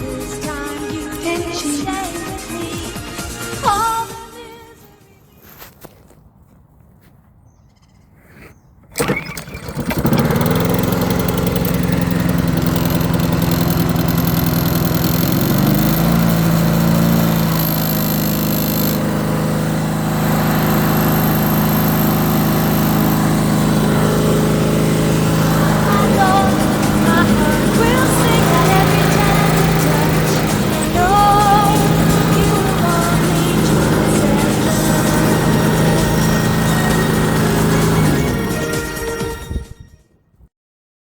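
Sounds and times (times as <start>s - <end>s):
lawn mower engine starting and running: 0.0s - 5.9s, 8.8s - 40.2s.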